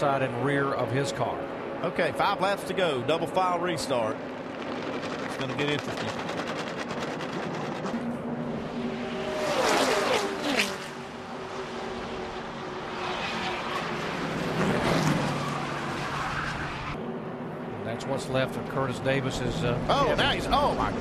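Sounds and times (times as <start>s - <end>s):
race car engines passing: 0.0s - 21.0s.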